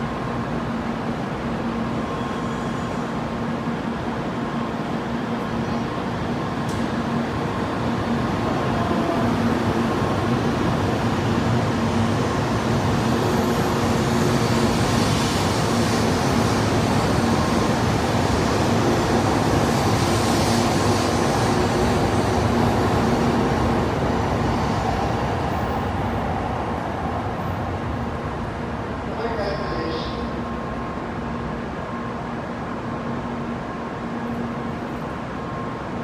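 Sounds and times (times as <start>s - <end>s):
train humming tones: 0.0s - 36.0s
train rolling rumble: 0.0s - 36.0s.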